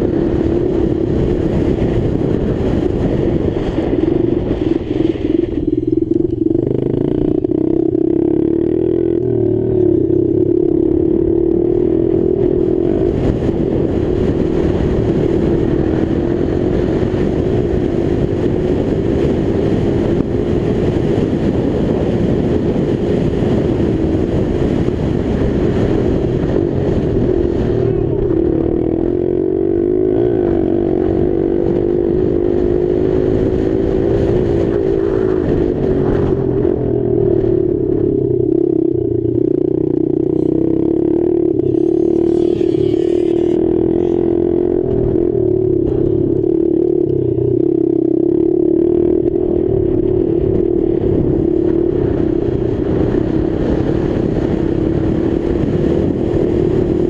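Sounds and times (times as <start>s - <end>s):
dirt bike engine at high revs: 0.0s - 57.0s
wind noise on microphone: 0.0s - 57.0s.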